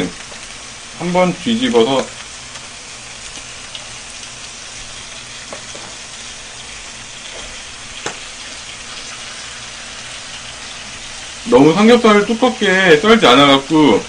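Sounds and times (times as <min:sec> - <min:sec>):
pork sizzling on a grill plate: 0:00.0 - 0:14.0.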